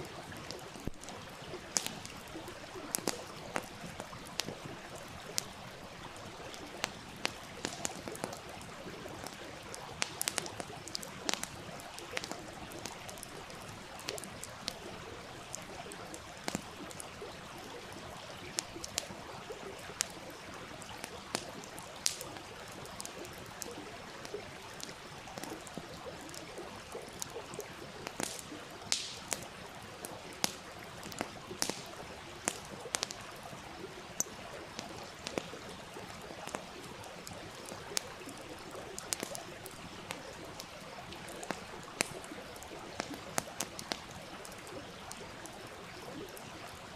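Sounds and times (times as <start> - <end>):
campfire crackling and popping: 0.0 - 46.9
stream running: 0.0 - 46.9.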